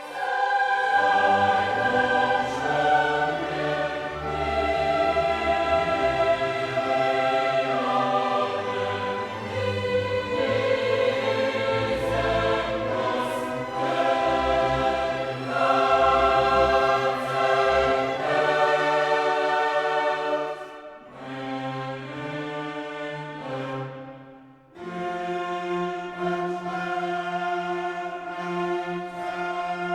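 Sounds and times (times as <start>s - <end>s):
choir singing held chords: 0.0s - 29.9s
orchestra: 0.0s - 29.9s.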